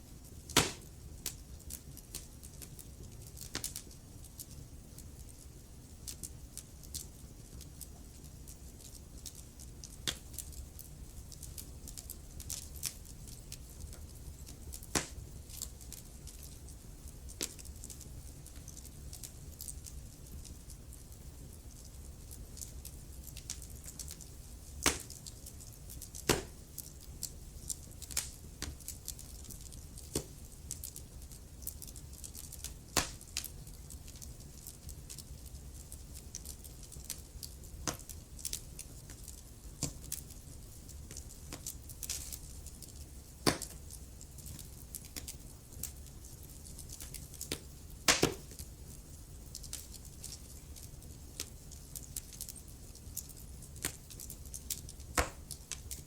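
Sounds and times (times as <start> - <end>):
wood fire crackling and popping: 0.2 - 56.0.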